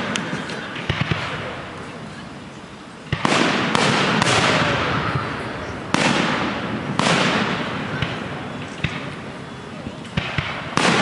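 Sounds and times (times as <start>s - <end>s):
fireworks exploding with crackle: 0.0s - 11.0s.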